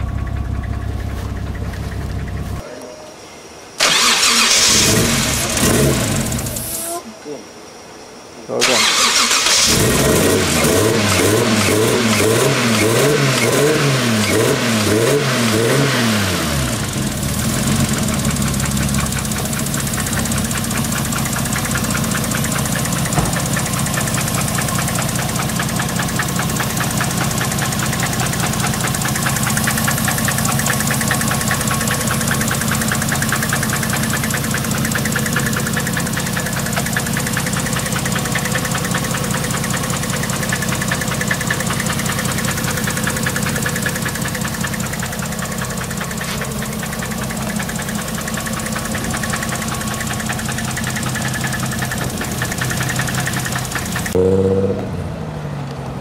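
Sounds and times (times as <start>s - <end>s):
car engine revving and idling: 0.0s - 2.6s, 4.3s - 6.7s, 8.7s - 56.0s.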